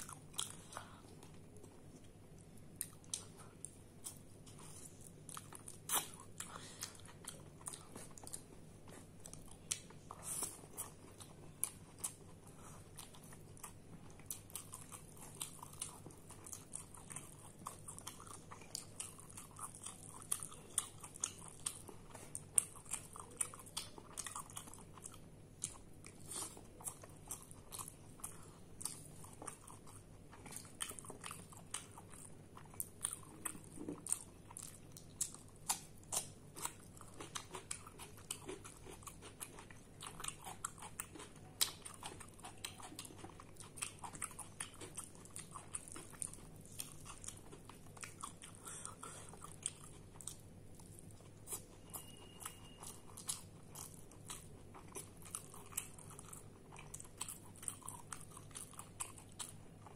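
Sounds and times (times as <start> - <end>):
person chewing with mouth clicks: 0.0 - 59.9.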